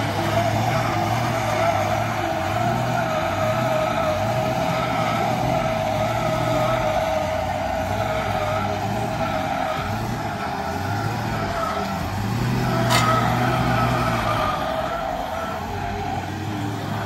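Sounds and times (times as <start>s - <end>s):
car engine running low: 0.0s - 17.0s
high squeal: 0.0s - 17.0s.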